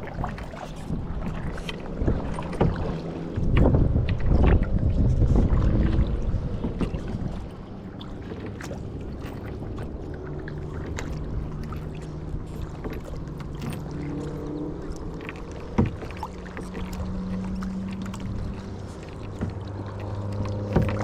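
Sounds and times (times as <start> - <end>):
water sloshing and dripping: 0.0 - 21.0.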